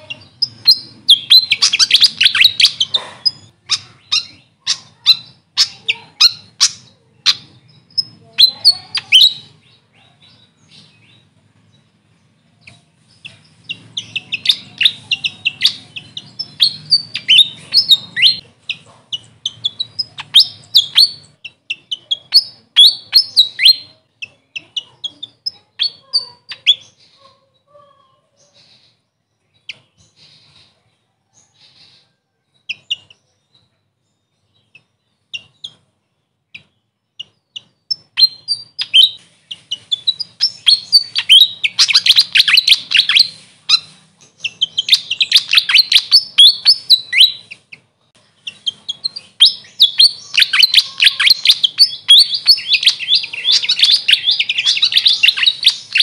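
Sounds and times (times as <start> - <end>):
bird singing high squeaky notes: 0.0 - 9.7, 12.6 - 29.0, 36.6 - 56.0.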